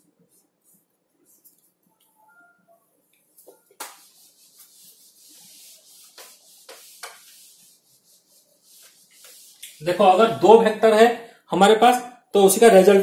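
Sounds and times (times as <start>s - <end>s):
cloth wiping whiteboard: 0.0s - 11.0s.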